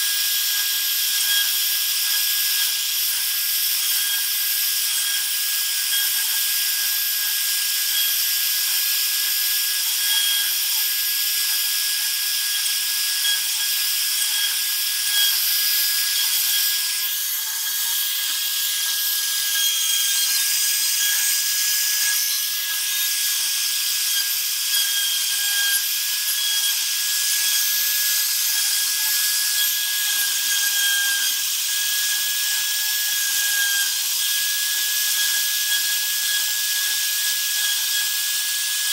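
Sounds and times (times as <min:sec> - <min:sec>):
router whining engraving wood: 0:00.0 - 0:38.9.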